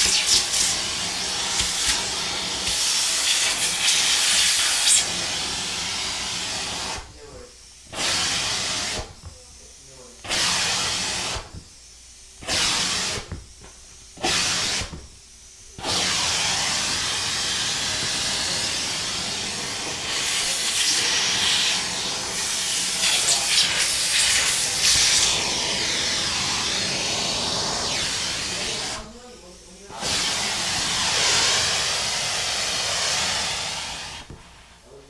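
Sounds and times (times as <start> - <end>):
compressed air hissing: 0.0 - 35.0.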